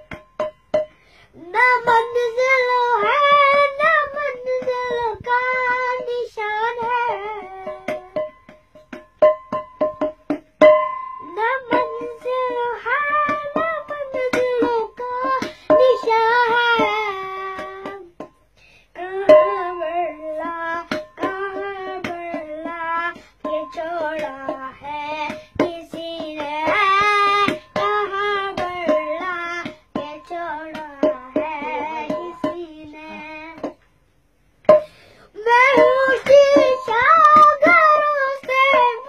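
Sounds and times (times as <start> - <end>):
hand beating a metal pot: 0.0 - 1.0, 1.8 - 18.4, 19.0 - 33.9, 34.6 - 39.0
boy singing: 1.3 - 8.4, 11.2 - 33.8, 34.7 - 39.0.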